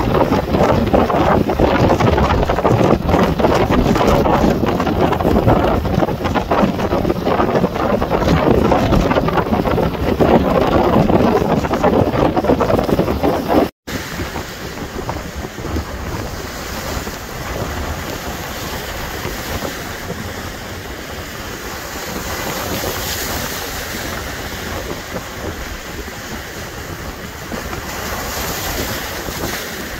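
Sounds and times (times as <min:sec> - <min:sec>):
lake waves breaking on rocks: 0:00.0 - 0:29.9
wind gusting on microphone: 0:00.0 - 0:29.9.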